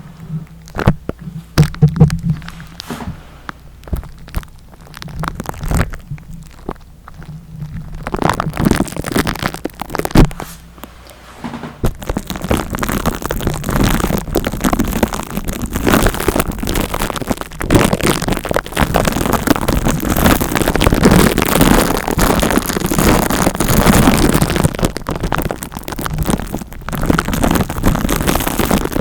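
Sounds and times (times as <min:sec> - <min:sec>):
crackling against microphone: 0:00.0 - 0:29.0.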